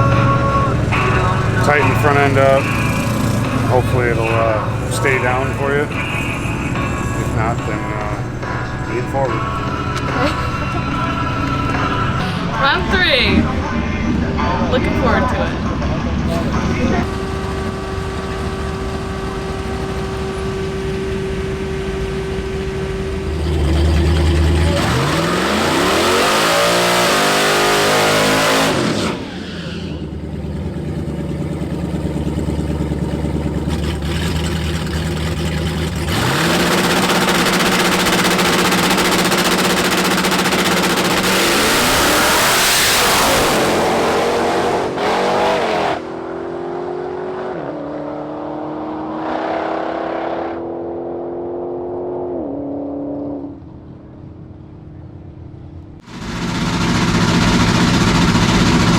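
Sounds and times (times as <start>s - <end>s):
drag car engine at full throttle: 0.0s - 58.9s.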